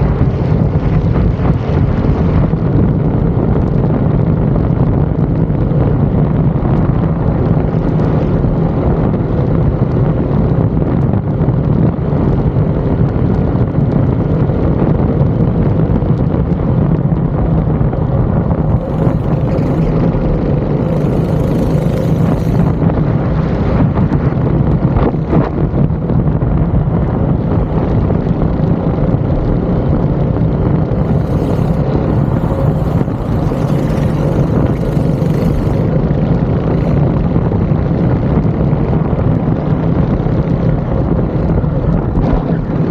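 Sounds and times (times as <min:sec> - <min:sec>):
go-kart engine running hard: 0:00.0 - 0:42.9.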